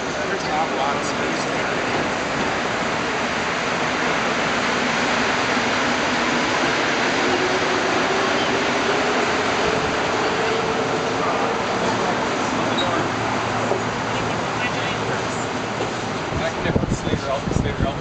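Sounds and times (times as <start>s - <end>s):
metro station rushing din: 0.0s - 18.0s.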